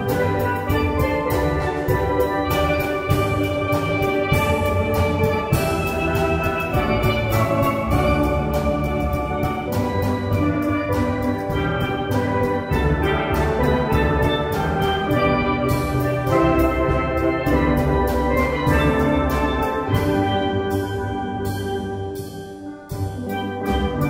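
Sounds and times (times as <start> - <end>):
ringing pitched notes: 0.0 - 24.0
steady drum beat: 0.0 - 24.0.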